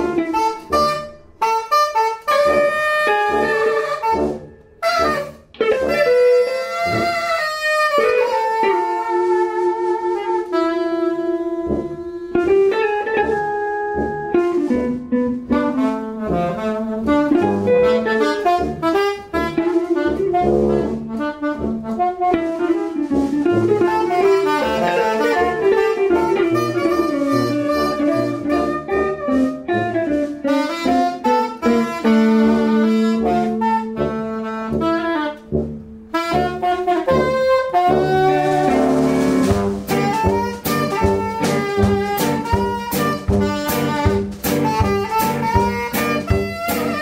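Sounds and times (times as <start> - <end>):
drums: 0.0 - 47.0
guitar: 0.0 - 47.0
tenor saxophone melody: 0.0 - 47.0
tuba bass line: 0.0 - 47.0.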